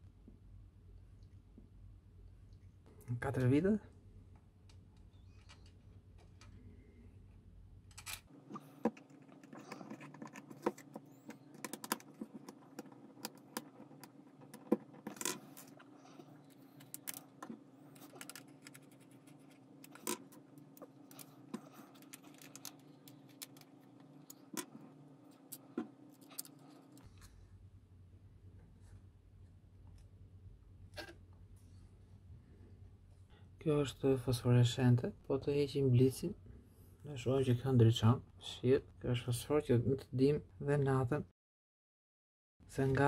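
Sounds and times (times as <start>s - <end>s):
faint steady hum: 0.0s - 41.3s.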